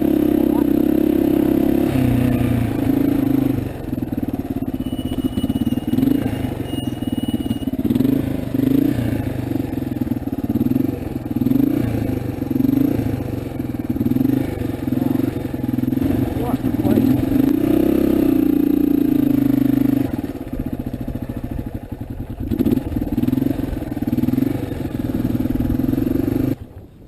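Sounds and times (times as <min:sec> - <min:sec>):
motorcycle engine revving: 0:00.0 - 0:26.8.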